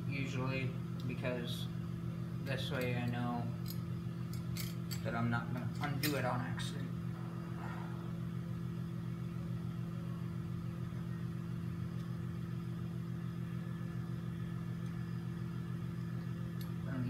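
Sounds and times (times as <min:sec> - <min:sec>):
low mechanical hum of machine: 0:00.0 - 0:17.0.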